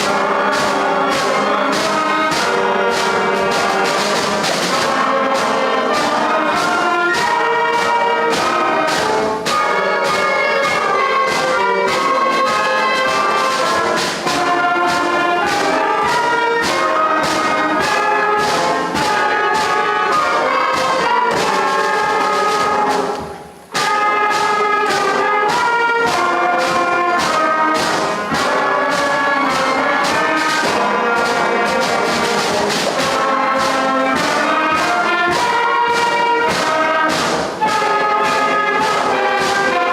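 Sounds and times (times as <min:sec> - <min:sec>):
concert band playing: 0:00.0 - 0:39.9.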